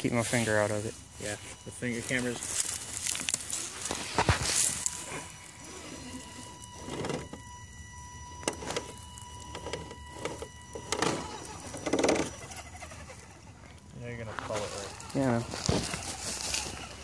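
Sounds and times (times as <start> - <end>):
electric motor and gears whining: 0.0 - 17.0
tyres crunching dirt: 0.0 - 17.0.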